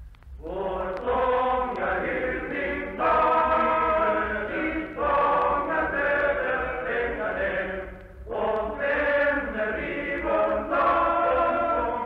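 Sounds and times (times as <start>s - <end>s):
male choir singing: 0.4s - 12.0s.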